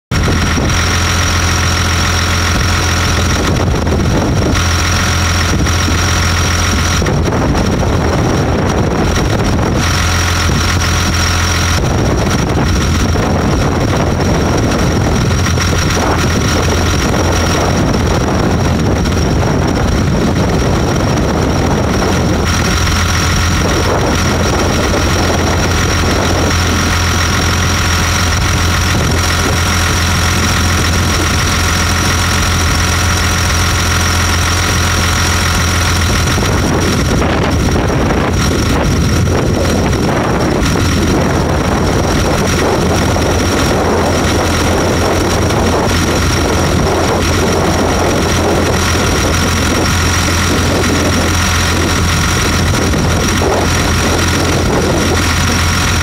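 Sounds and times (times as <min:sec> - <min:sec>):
machine engines running under load: 0:00.0 - 0:56.0
high-pitched whine: 0:00.1 - 0:56.0.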